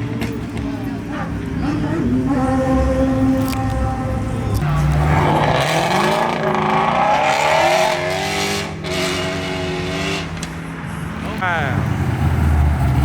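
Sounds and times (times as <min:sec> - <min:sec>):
car engine revving: 0:00.9 - 0:13.0.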